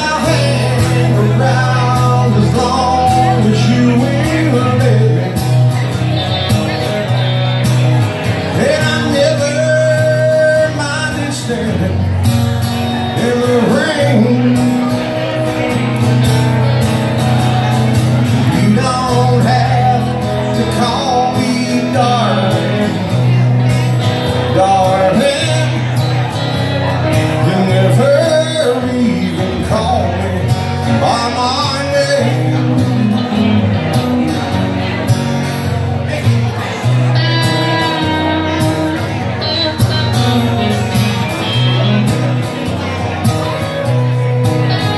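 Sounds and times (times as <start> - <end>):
man singing: 0.0 - 16.8, 17.5 - 44.9
live country song on guitars: 0.0 - 44.9.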